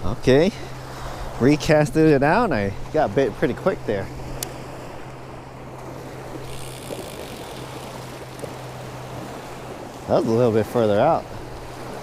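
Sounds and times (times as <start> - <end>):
waves on a lakeshore: 0.0 - 12.0
wind: 0.0 - 12.0.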